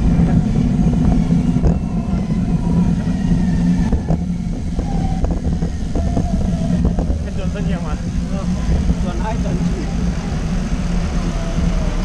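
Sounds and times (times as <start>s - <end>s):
faint traffic engines: 0.0s - 12.0s
wind and road noise: 0.0s - 12.0s.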